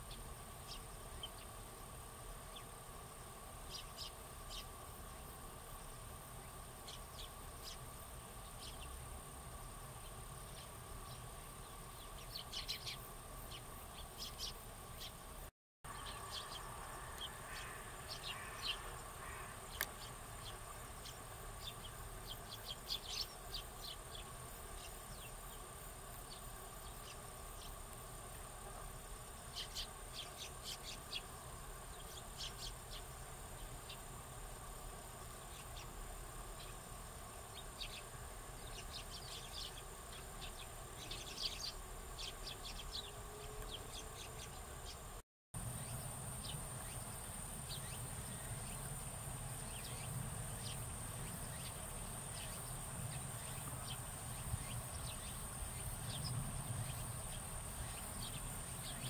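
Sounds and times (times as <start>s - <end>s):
sparrows chirping: 0.0s - 2.8s, 3.6s - 9.1s, 9.9s - 15.2s, 15.9s - 27.8s, 29.4s - 34.2s, 35.3s - 59.0s.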